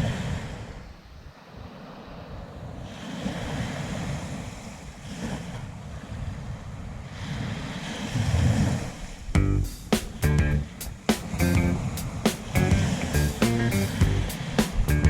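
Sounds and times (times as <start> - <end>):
sea waves washing on beach: 0.0 - 15.0
wind rumbling on microphone: 0.0 - 15.0.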